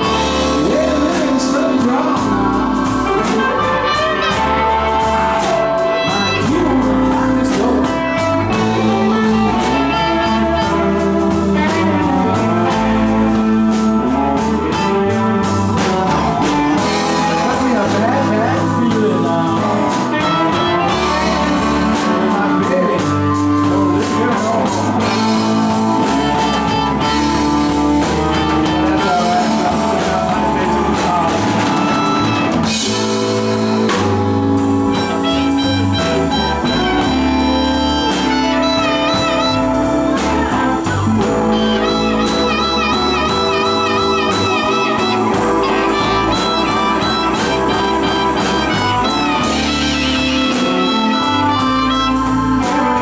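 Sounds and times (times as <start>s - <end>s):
drums: 0.0s - 53.0s
electric guitar lead: 0.0s - 53.0s
keyboard: 0.0s - 53.0s.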